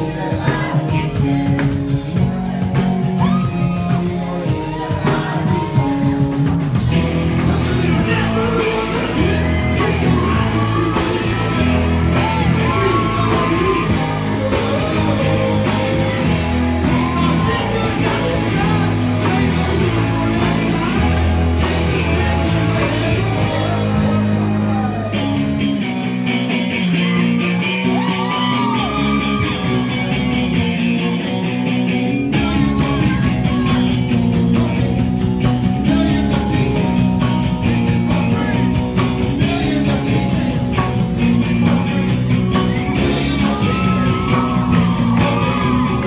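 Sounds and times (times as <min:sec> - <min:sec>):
man singing into a microphone: 0:00.0 - 0:25.0, 0:27.8 - 0:46.0
rock music: 0:00.0 - 0:46.0.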